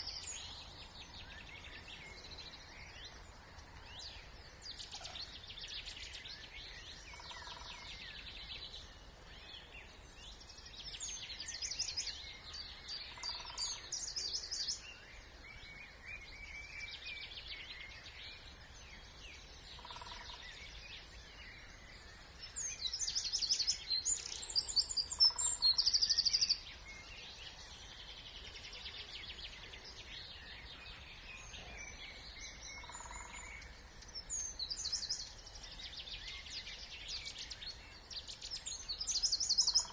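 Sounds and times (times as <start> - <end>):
faint low background noise: 0.0 - 39.9
songbirds singing: 0.0 - 39.9.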